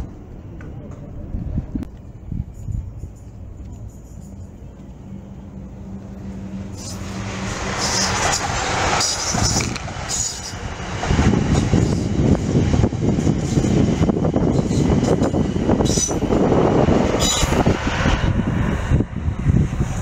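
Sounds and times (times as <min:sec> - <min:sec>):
passenger train passing: 0:00.0 - 0:20.0.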